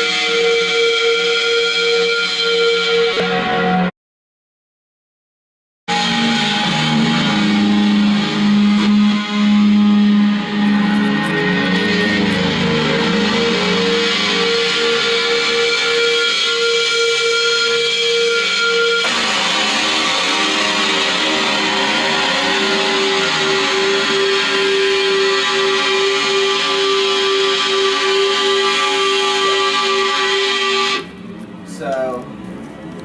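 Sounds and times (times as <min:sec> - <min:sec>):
electric guitar sustained notes: 0:00.0 - 0:03.9, 0:05.9 - 0:31.3.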